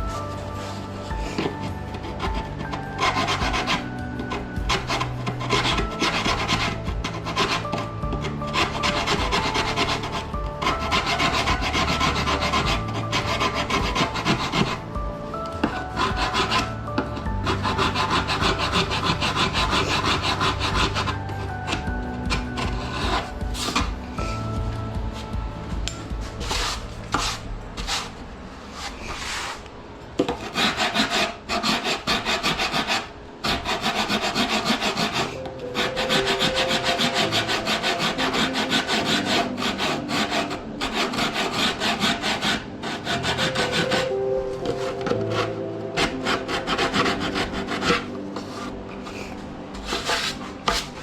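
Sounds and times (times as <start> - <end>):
rasp scraping foam: 0.0 - 14.9, 15.6 - 24.4, 26.4 - 29.7, 30.3 - 51.0
background music: 0.0 - 51.0.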